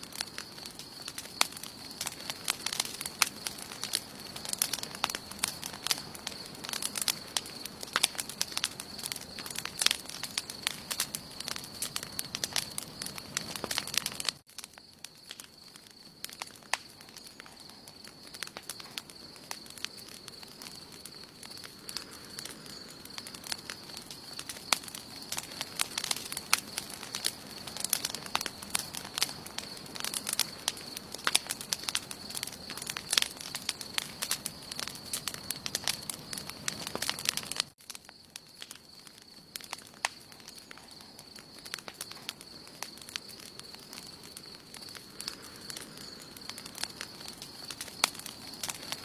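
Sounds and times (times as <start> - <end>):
campfire crackling and popping: 0.0 - 49.0.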